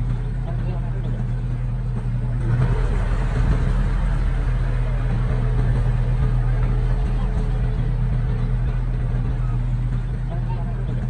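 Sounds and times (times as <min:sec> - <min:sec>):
heavy diesel engine humming: 0:00.0 - 0:11.0.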